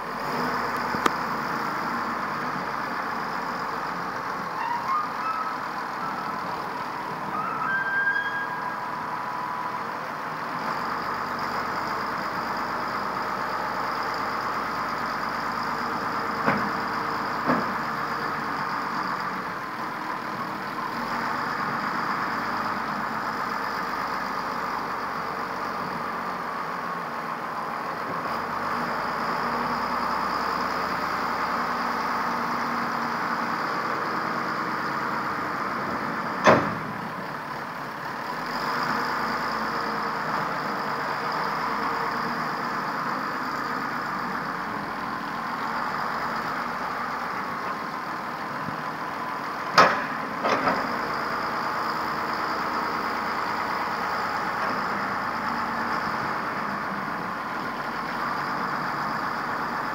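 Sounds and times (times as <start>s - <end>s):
wheel loader diesel engine: 0.0s - 59.9s.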